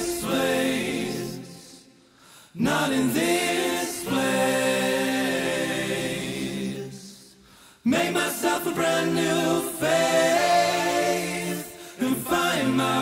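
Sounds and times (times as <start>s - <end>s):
wordless vocal harmonies: 0.0s - 13.0s.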